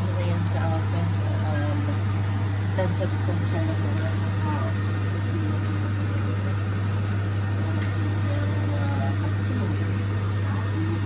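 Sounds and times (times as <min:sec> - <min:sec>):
extractor fan humming: 0:00.0 - 0:11.0.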